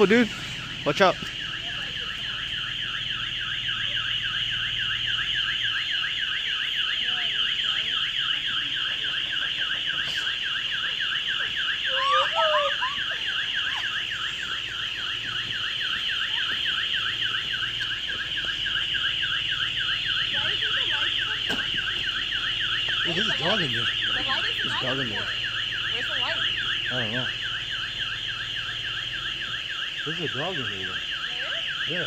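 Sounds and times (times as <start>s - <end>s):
electronic alarm siren warbling: 0.0s - 32.0s.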